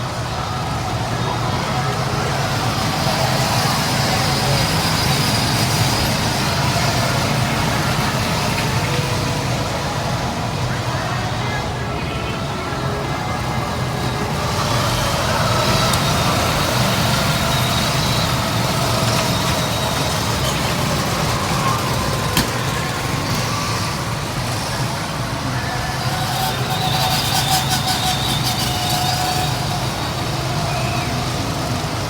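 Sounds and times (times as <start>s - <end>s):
go-kart engines droning: 0.0s - 32.0s.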